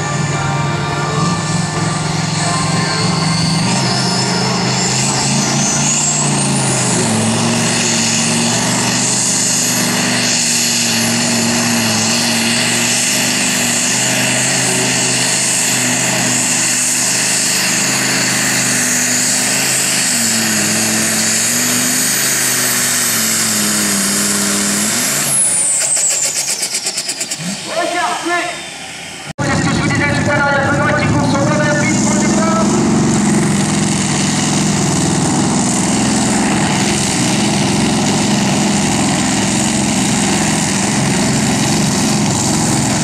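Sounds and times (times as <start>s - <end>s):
high whine: 0.0s - 43.0s
tractor engine at full throttle: 0.0s - 43.0s.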